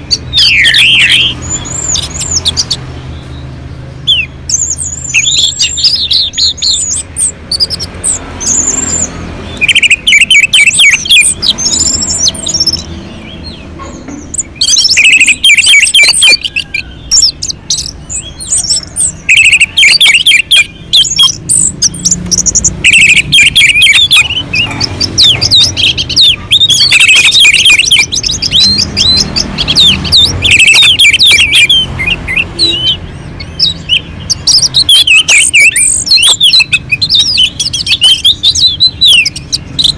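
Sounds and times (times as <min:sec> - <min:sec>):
thrush singing chirps and whistles: 0:00.0 - 0:39.9.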